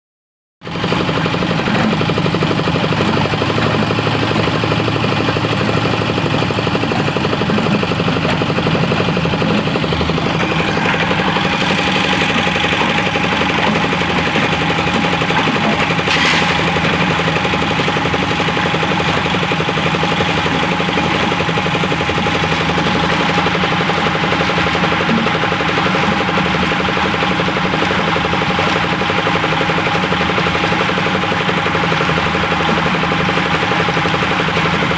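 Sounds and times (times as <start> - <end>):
engine running: 0.6 - 34.9.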